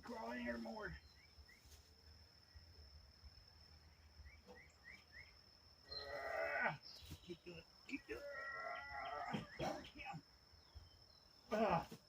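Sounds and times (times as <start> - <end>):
bird chirping: 0.0 - 11.6.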